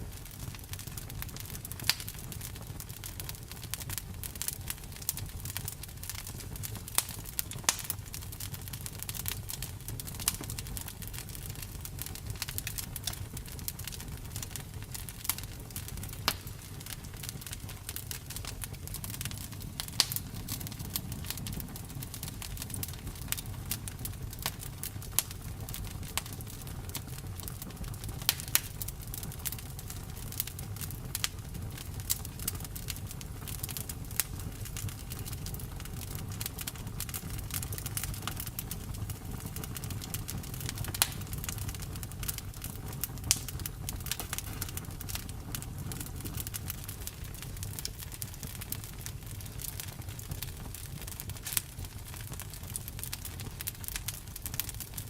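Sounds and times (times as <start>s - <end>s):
low rumble of flames: 0.0s - 55.0s
wood crackling and popping: 0.0s - 55.0s.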